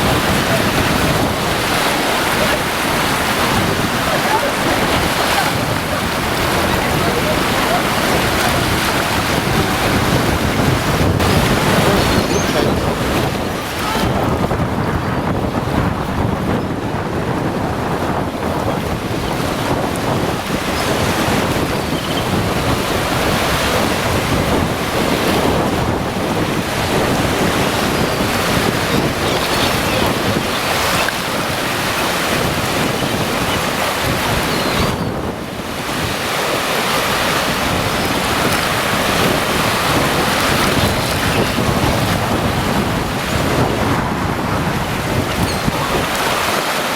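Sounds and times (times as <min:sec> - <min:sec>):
surf washing onto beach: 0:00.0 - 0:46.9
wind buffeting microphone: 0:00.0 - 0:46.9.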